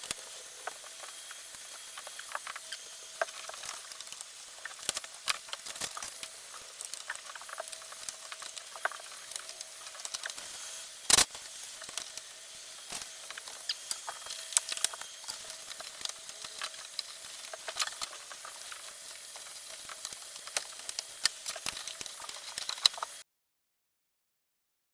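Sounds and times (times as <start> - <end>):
water patters and ticks: 0.0 - 10.5, 11.7 - 23.2.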